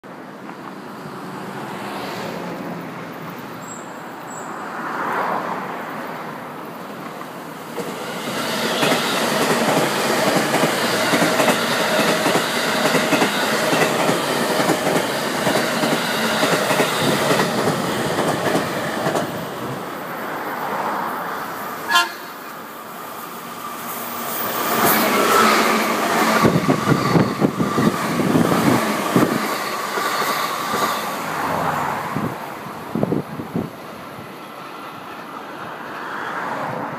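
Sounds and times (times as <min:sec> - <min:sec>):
train passing with wheel clatter: 0:00.0 - 0:36.9.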